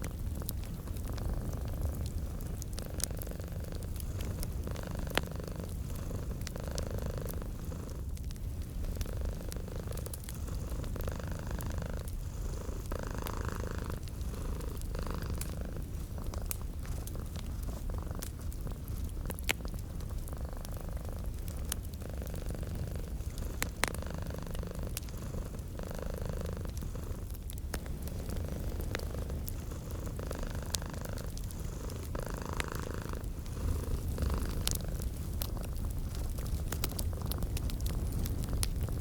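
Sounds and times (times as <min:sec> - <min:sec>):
cat purring: 0:00.0 - 0:39.0
wood fire popping: 0:00.0 - 0:39.0.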